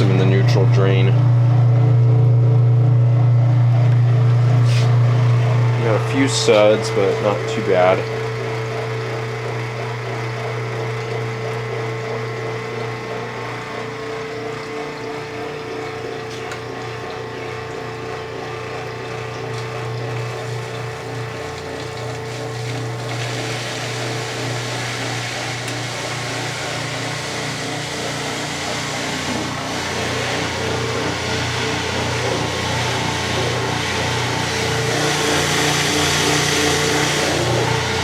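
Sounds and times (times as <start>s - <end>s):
washing machine motor growl: 0.0s - 38.0s.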